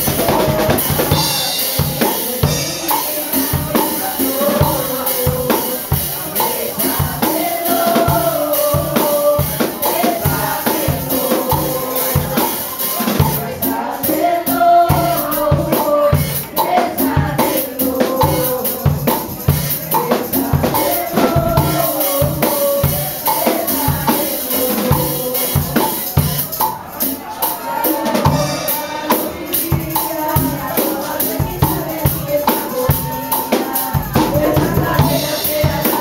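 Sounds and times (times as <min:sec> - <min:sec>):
drum kit beat: 0:00.0 - 0:36.0
upbeat worship song: 0:00.0 - 0:36.0.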